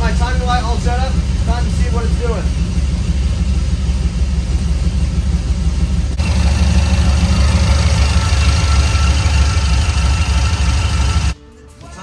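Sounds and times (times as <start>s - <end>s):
truck engine idling: 0.0s - 11.4s.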